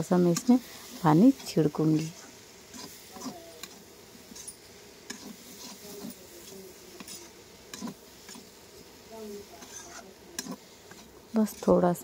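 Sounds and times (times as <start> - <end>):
spatula scraping a pan: 0.0 - 12.0.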